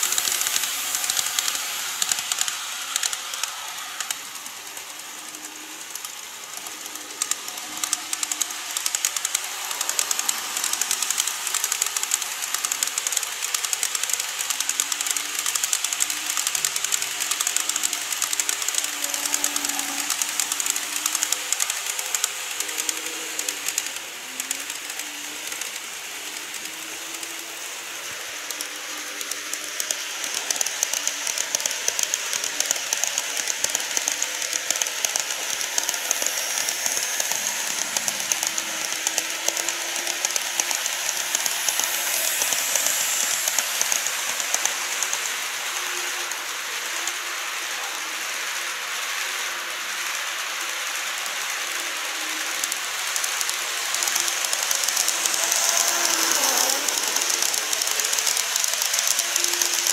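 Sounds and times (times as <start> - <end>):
small wheels clicking over rail joints: 0.0 - 59.9.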